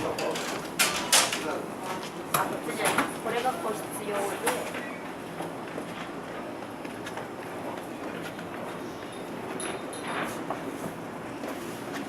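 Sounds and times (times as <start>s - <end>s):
machinery and ventilation hum: 0.0s - 12.0s.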